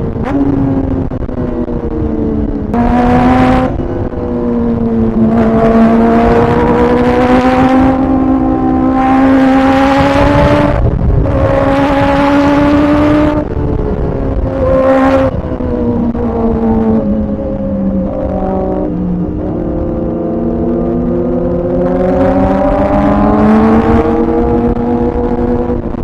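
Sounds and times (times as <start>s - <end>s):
intake and exhaust rush: 0.0s - 26.0s
motorcycle engine revving: 0.0s - 26.0s.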